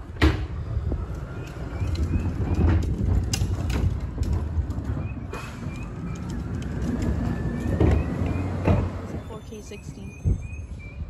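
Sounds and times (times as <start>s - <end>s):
garbage truck engine rumble: 0.0s - 11.0s.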